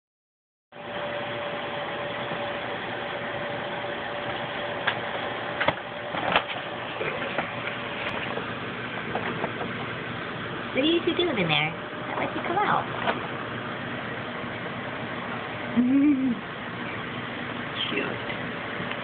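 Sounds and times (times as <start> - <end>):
machine-like hum and hiss: 0.8 - 19.0.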